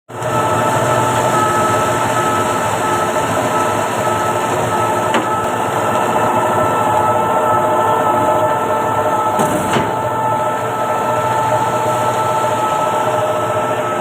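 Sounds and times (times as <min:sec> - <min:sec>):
concrete pump truck drone: 0:00.1 - 0:14.0
whining tones: 0:00.1 - 0:14.0.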